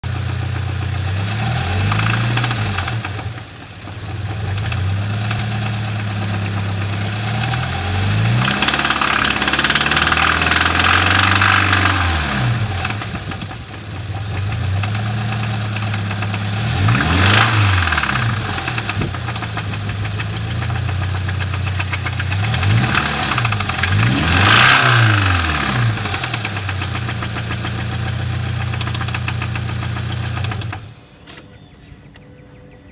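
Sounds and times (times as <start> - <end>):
engine ticking: 0.0 - 31.2
car engine idling and revving: 0.0 - 31.5.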